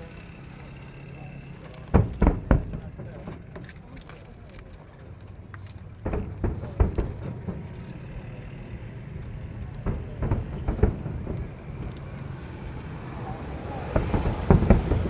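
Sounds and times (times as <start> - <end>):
fireworks booming: 1.4 - 4.4, 5.7 - 15.0.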